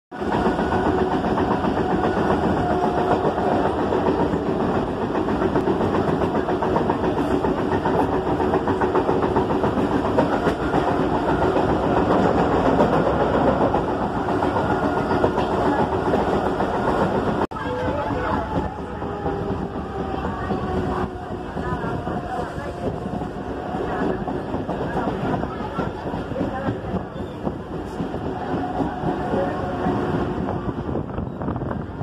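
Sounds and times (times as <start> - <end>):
train wheels rumbling on rails: 0.1 - 32.0.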